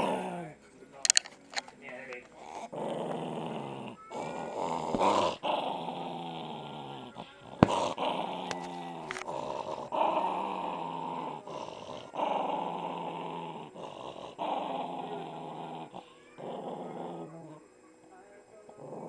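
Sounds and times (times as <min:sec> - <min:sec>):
small dog growling: 0:00.0 - 0:01.2, 0:02.3 - 0:17.8, 0:18.7 - 0:19.0.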